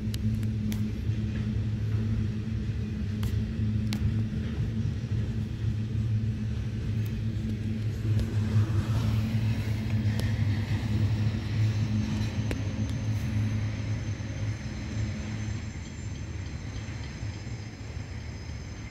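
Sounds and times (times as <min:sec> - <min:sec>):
freight train wagons rumbling past: 0:00.0 - 0:18.9.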